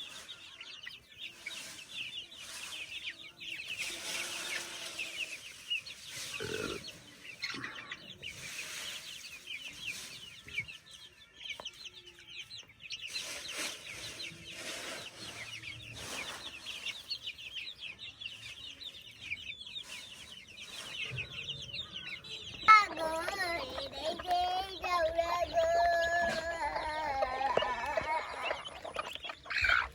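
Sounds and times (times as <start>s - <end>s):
chickens calling: 0.0s - 29.9s.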